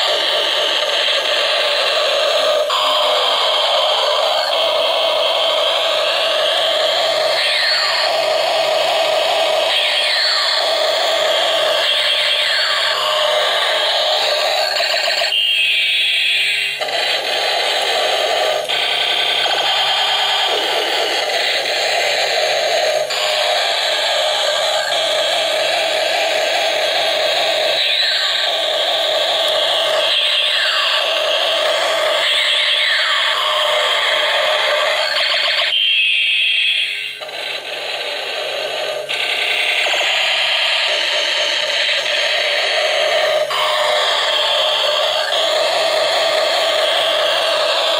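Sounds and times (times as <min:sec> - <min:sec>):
toy helicopter electronic sound effects: 0:00.0 - 0:47.9.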